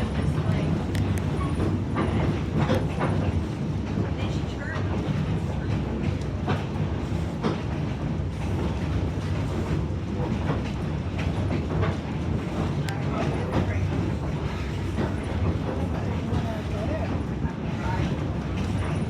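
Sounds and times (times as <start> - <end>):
train rumbling on track: 0.0 - 19.0.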